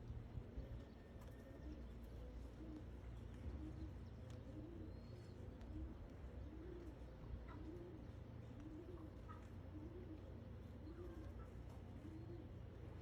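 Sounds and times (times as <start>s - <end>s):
pigeons cooing softly: 0.0s - 13.0s.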